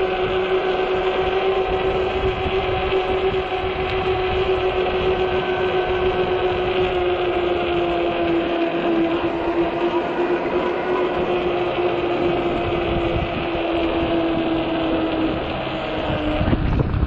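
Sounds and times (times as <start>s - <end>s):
electric motor whining: 0.0s - 17.0s
tire hum: 0.0s - 17.0s
wind noise: 0.0s - 17.0s.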